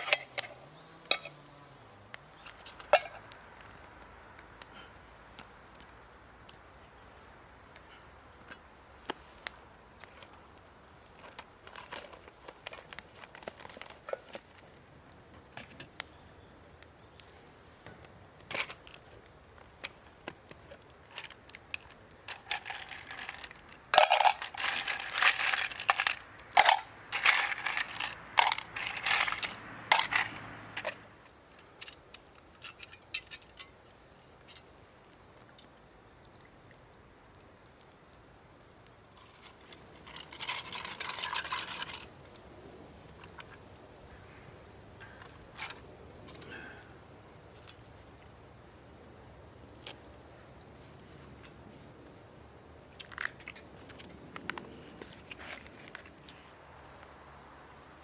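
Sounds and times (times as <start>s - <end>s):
dry kindling crackling and snapping: 0.0s - 58.0s.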